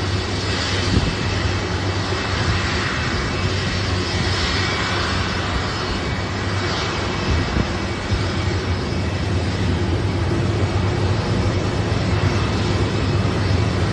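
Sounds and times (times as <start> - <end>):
aircraft engine drone: 0.0 - 13.9
broad rushing noise: 0.0 - 13.9.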